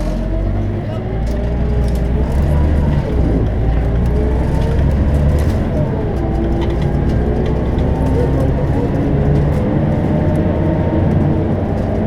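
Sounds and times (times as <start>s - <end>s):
bus diesel engine pulling under load: 0.0s - 12.0s.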